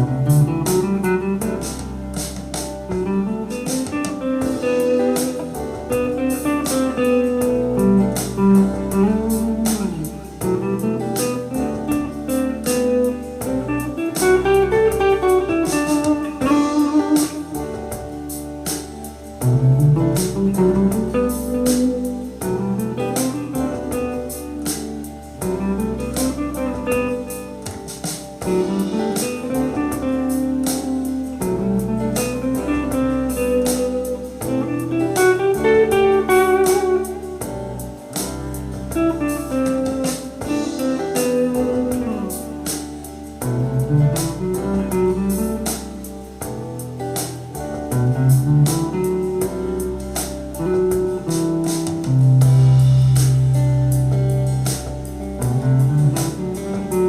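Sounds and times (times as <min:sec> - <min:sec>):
backing track with drum beat: 0:00.0 - 0:57.0
electric guitar lead: 0:00.0 - 0:57.0.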